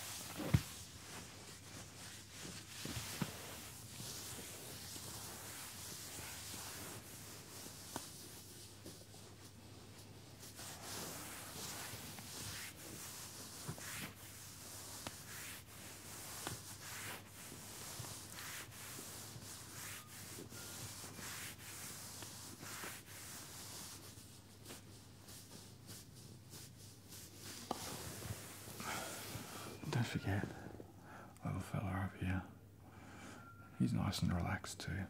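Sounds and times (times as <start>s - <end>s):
hands rubbing on denim: 0.0s - 30.6s.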